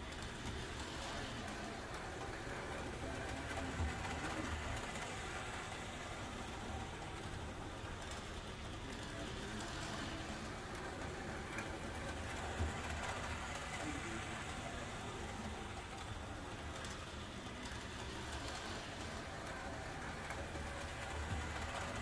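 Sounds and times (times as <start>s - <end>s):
toy train motor hum: 0.0s - 22.0s
wheels rattling on rails: 0.0s - 22.0s.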